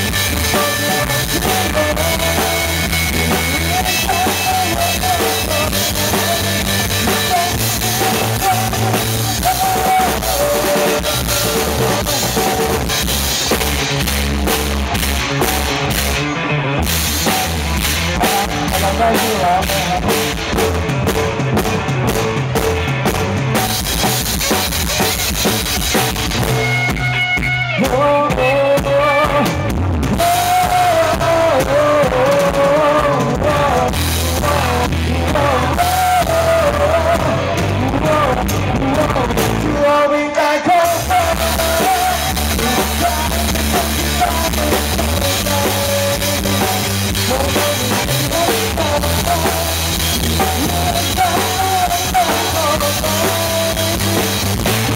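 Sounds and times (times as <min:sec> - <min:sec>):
person singing: 0:00.0 - 0:13.6, 0:17.2 - 0:20.6, 0:26.6 - 0:54.9
bass notes: 0:00.0 - 0:54.9
drum kit: 0:00.0 - 0:54.9
rock band playing live: 0:00.0 - 0:54.9.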